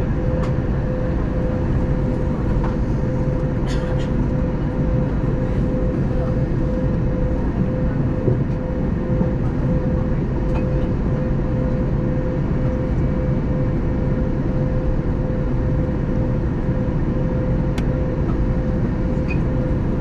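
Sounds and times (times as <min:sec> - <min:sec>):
airplane cabin engine drone: 0:00.0 - 0:20.0
constant mid-pitched hum: 0:00.0 - 0:20.0.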